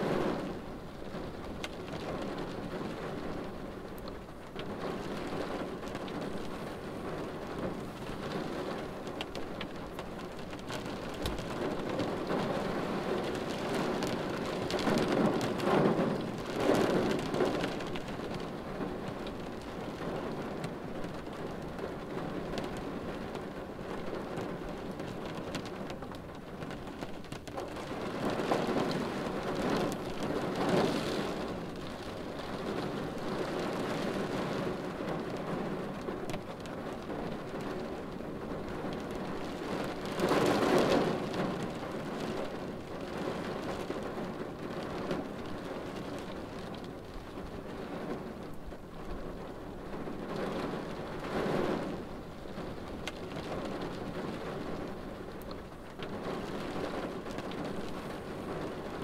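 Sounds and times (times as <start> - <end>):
rain on a car windshield: 0.0 - 59.0.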